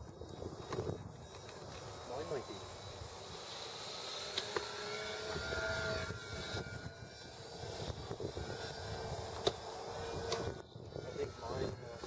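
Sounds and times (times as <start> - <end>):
wind rumbling on microphone: 0.0 - 3.4, 5.2 - 12.0
model airplane motor whine: 0.0 - 12.0.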